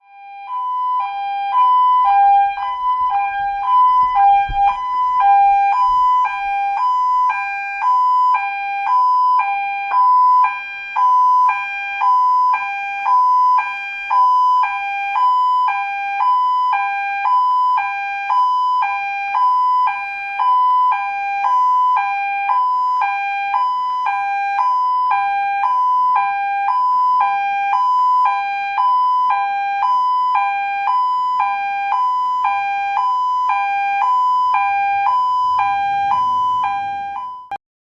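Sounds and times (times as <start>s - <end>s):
two-tone police siren: 0.0s - 37.6s.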